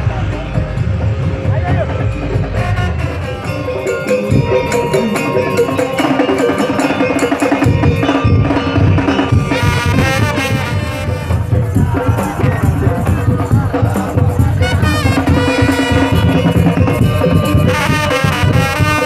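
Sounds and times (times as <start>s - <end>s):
wooden slit drums and drums beat: 0.0s - 19.0s
pitched melodic parts: 1.8s - 19.0s.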